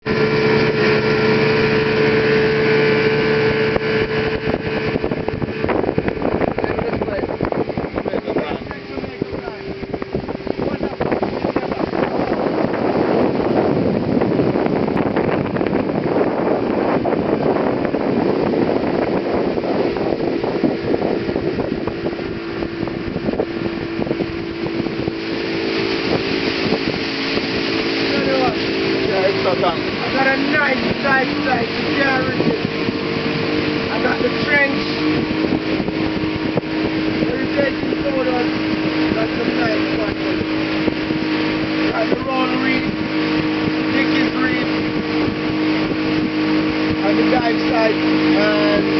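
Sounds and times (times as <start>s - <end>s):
outboard motor running: 0.0s - 48.9s
rushing water: 0.0s - 48.9s
wind buffeting microphone: 0.0s - 48.9s.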